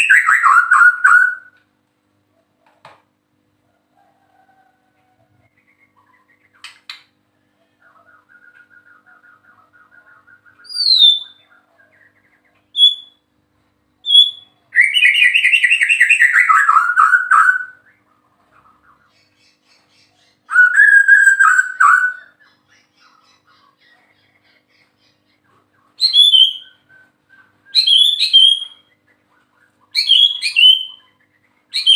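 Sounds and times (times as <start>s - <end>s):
songbird singing: 0.0s - 1.7s, 5.0s - 31.9s.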